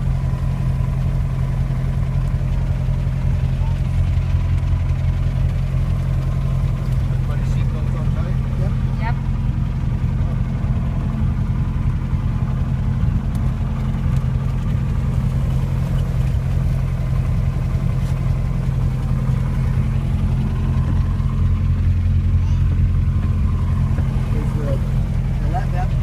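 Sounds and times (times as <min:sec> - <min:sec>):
airplane engine droning: 0:00.0 - 0:26.0.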